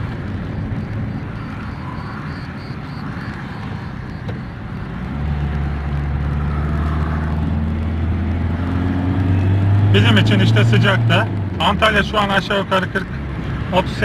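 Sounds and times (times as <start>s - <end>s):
car engine drone: 0.0s - 14.0s
road noise: 0.0s - 14.0s.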